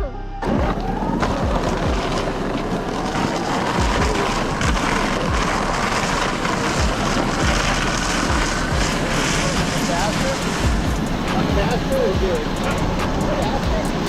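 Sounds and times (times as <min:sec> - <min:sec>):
electric motor whining: 0:00.0 - 0:14.0
low thumps: 0:00.0 - 0:14.0.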